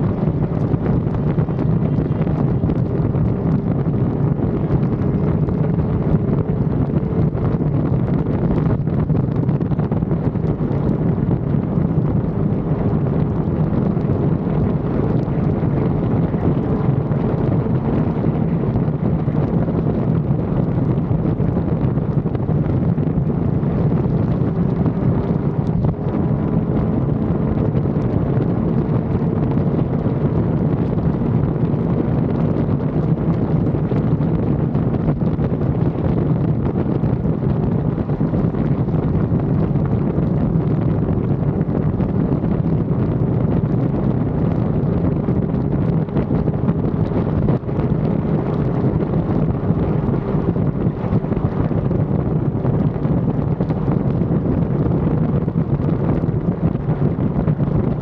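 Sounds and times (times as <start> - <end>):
motorcycle engine droning: 0.0 - 58.0
wind buffeting microphone: 0.0 - 58.0.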